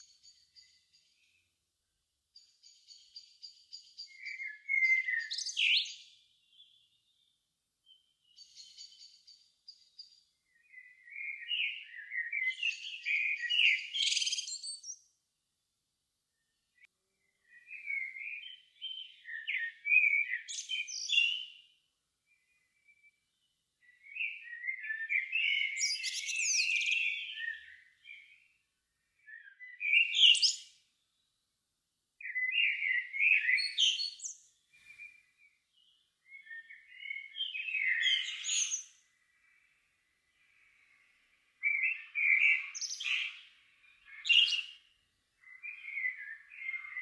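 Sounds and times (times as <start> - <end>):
songbird singing: 0.0 - 1.6, 2.3 - 15.2, 16.3 - 31.5, 32.2 - 47.0.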